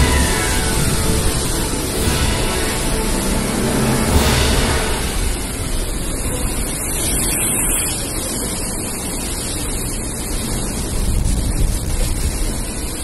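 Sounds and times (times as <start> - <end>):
heavy surf breaking: 0.0 - 13.0.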